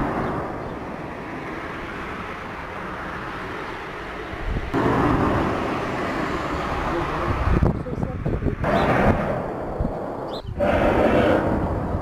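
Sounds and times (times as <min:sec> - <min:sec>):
low rumbling noise in sky: 0:00.0 - 0:12.0.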